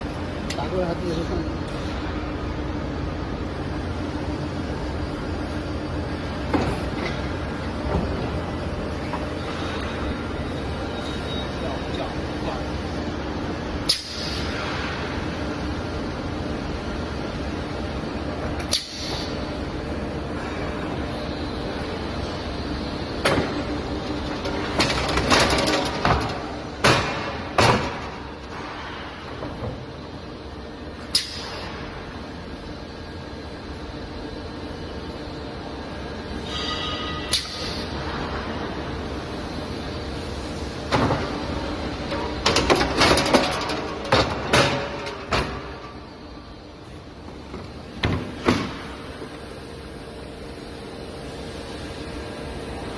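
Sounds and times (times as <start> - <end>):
steady machine hum: 0.0 - 52.9.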